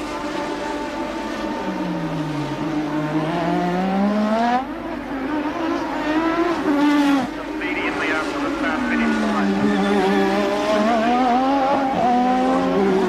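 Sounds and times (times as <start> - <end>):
racing car engine accelerating: 0.0 - 13.0
second racing car engine: 0.0 - 13.0.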